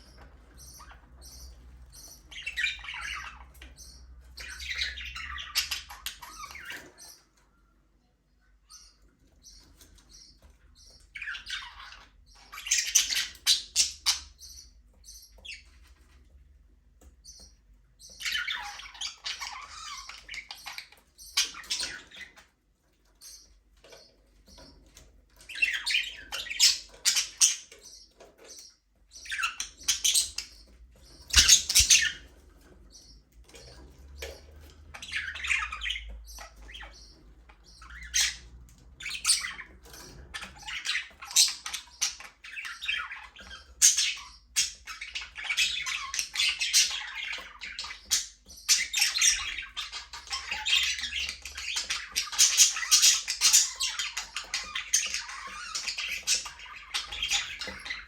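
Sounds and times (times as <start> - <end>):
budgerigars chirping and squawking: 0.0 - 7.7, 8.4 - 58.0.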